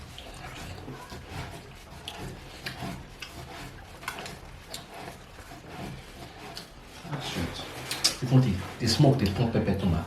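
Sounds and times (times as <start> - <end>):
quiet chewing: 0.0 - 8.3.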